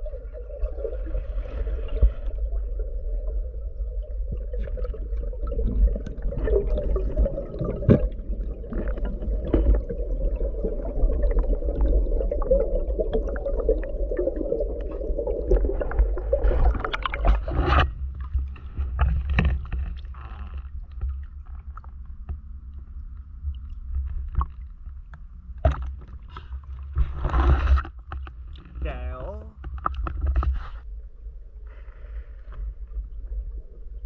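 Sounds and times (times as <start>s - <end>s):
water sloshing and splashing: 0.0s - 30.9s
underwater rumble and crackle: 0.0s - 34.0s.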